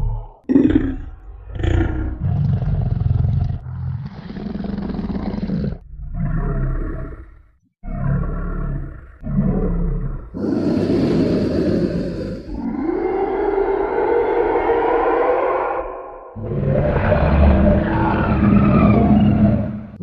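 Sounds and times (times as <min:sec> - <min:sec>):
deep monster roars: 0:00.0 - 0:20.0.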